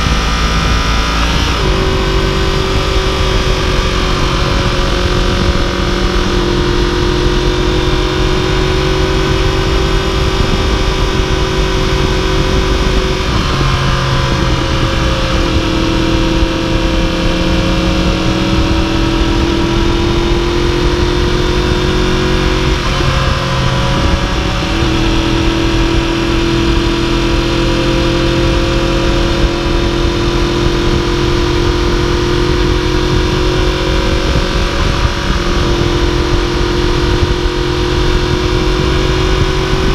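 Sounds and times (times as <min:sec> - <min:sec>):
motorcycle engine cruising: 0:00.0 - 0:39.9
wind rush over microphone: 0:00.0 - 0:39.9.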